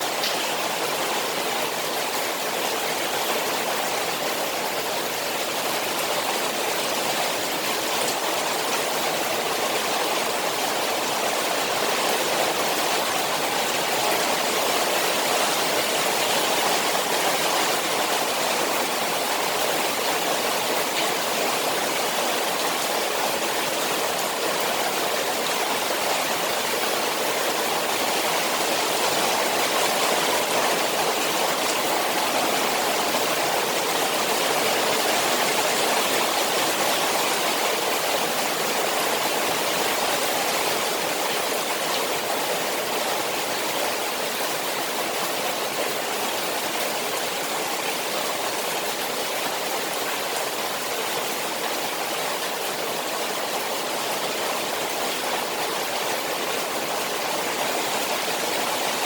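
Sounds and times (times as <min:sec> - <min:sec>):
rain falling on a pond: 0:00.0 - 0:59.0.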